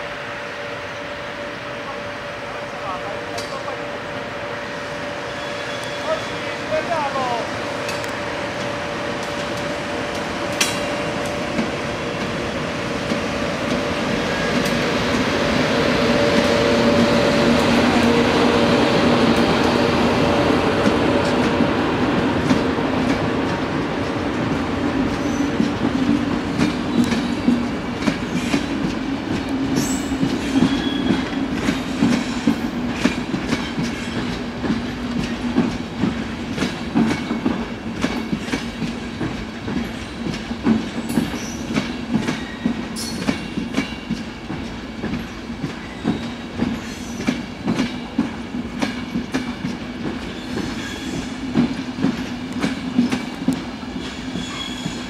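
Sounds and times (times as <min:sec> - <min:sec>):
electric locomotive hum: 0:00.0 - 0:55.0.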